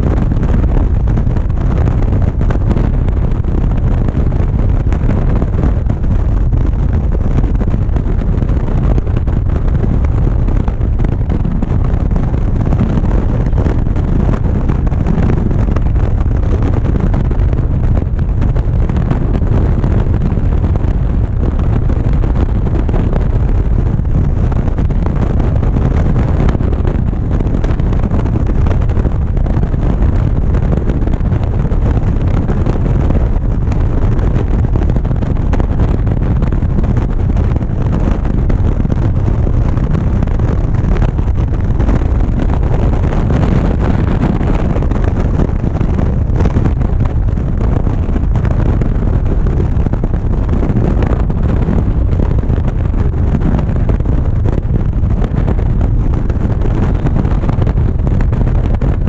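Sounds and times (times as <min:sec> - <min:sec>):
road noise: 0:00.0 - 0:59.0
wind rumble on microphone: 0:00.0 - 0:59.0.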